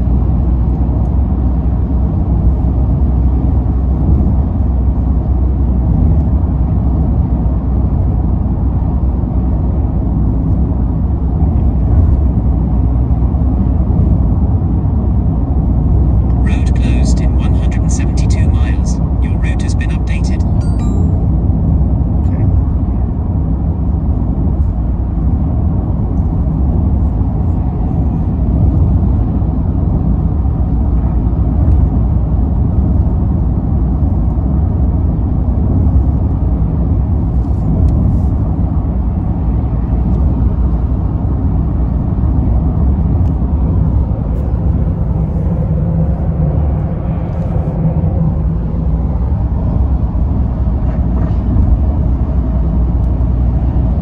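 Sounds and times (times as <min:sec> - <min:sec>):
car engine hum: 0:00.0 - 0:54.0
road and tyre noise: 0:00.0 - 0:54.0.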